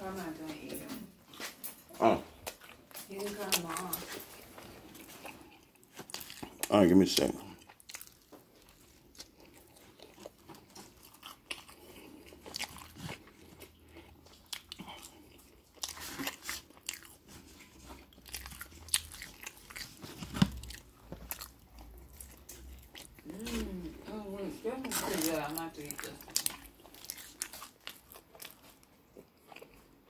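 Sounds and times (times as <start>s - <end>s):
person chewing pizza: 1.2s - 30.0s.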